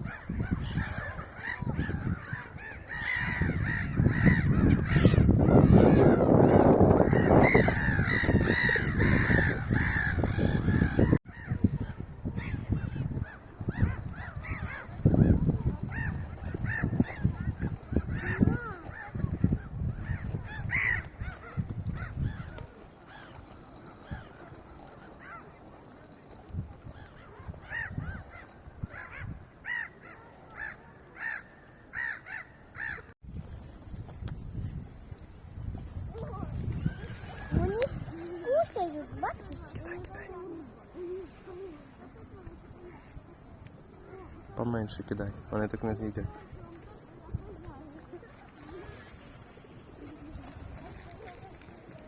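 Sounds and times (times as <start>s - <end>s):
flock of birds calling: 0.0s - 25.8s, 26.8s - 33.1s, 36.2s - 52.0s.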